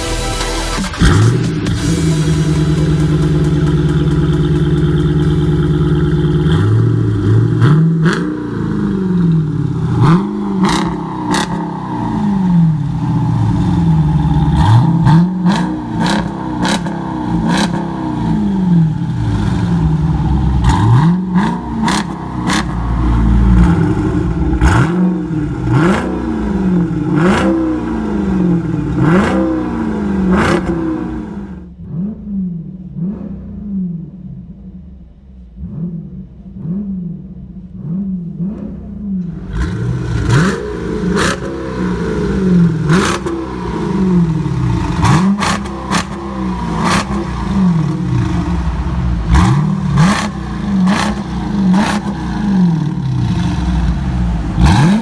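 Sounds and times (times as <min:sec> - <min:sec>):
v eight engine idling and revving: 0:00.0 - 0:55.0.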